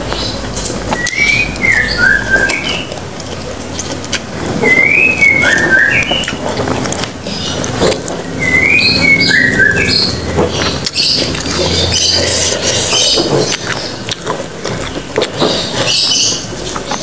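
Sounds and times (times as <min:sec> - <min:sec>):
lip smacks: 0:00.0 - 0:17.0
wet chewing and crunching: 0:00.0 - 0:17.0.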